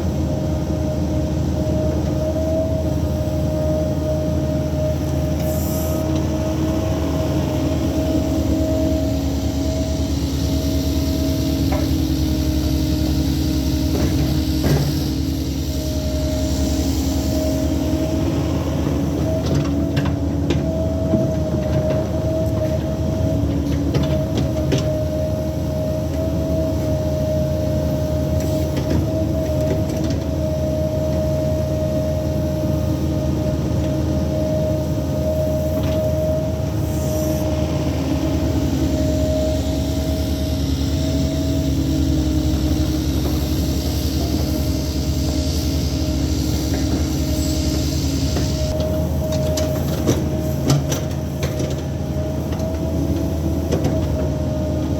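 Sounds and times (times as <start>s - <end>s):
excavator engine and hydraulics: 0.0s - 54.9s.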